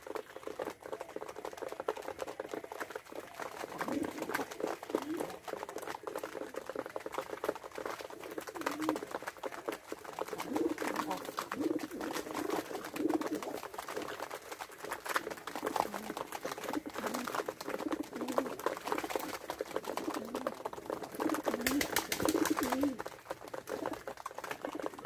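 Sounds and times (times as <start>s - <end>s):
clicks and rustles: 0.0s - 25.0s
pigeons cooing: 0.1s - 7.2s, 8.1s - 14.2s, 15.0s - 25.0s.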